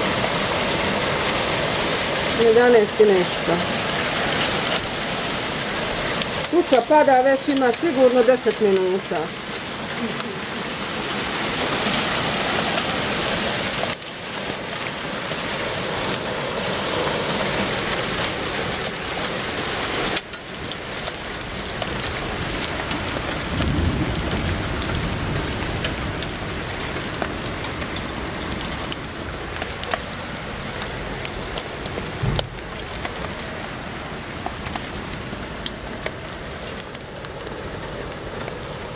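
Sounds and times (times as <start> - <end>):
car passing on wet street: 0.0 - 38.9
hailstones striking surfaces: 0.0 - 38.9
heavy rain: 0.0 - 38.9.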